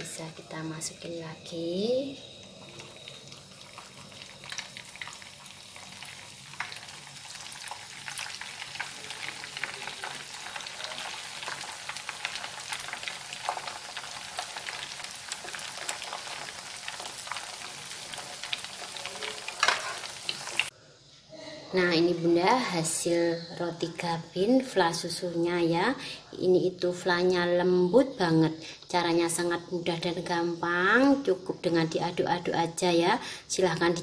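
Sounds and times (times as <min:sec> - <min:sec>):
crackers deep-frying in oil: 0:00.0 - 0:20.8, 0:21.9 - 0:34.0.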